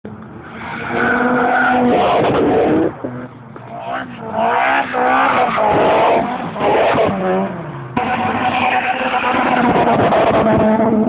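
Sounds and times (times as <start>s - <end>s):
race cars passing at high revs: 0.2s - 11.0s.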